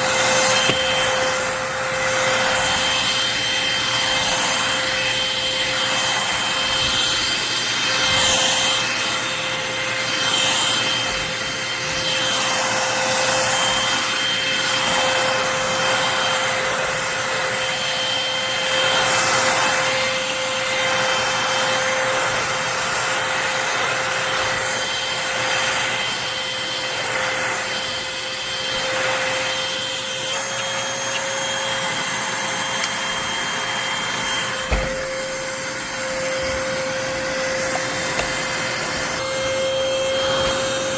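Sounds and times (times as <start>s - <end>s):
stick vacuum motor whine: 0.0s - 40.9s.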